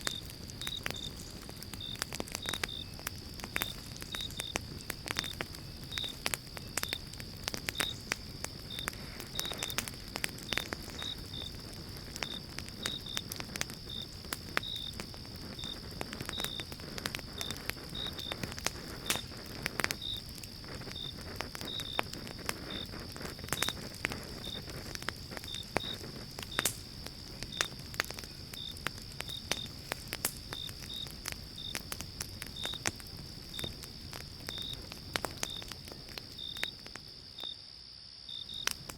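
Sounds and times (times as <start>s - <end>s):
wood fire crackling: 0.0s - 37.7s, 38.4s - 38.9s.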